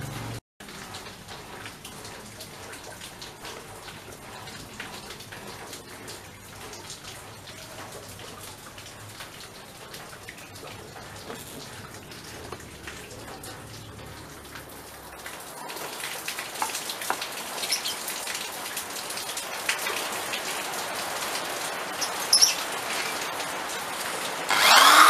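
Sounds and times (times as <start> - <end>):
rain pattering: 0.0 - 24.5.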